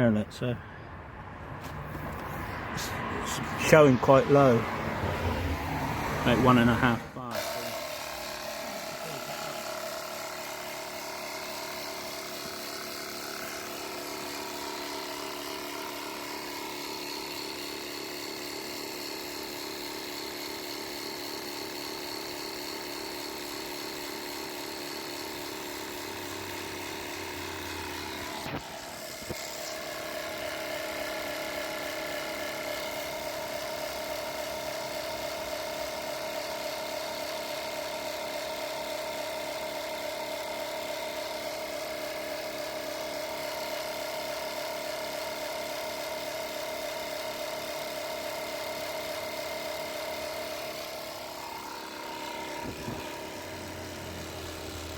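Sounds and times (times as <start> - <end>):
air compressor buzzing hum: 0.0 - 54.9.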